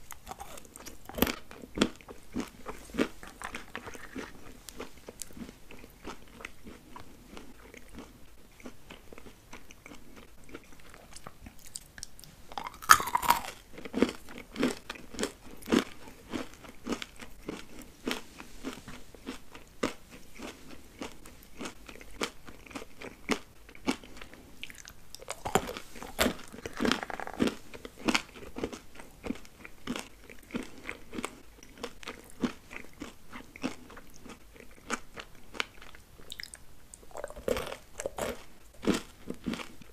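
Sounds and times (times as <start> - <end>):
crunching bite: 0.1 - 8.1, 9.6 - 39.7.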